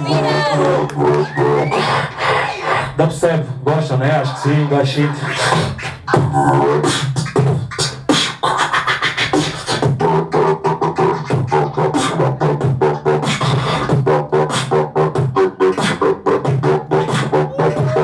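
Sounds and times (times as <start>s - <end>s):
person beatboxing: 0.0s - 18.0s.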